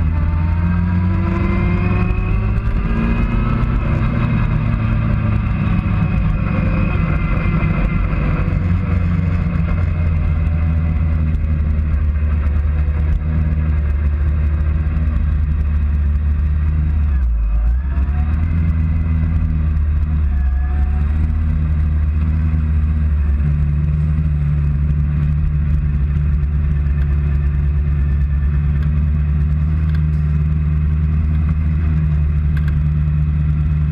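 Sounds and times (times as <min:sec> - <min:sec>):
motorcycle engine at low revs: 0:00.0 - 0:33.9.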